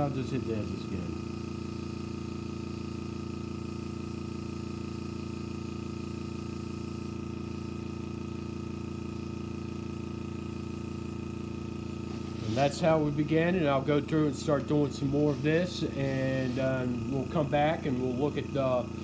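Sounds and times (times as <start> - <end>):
air compressor humming: 0.0 - 19.0.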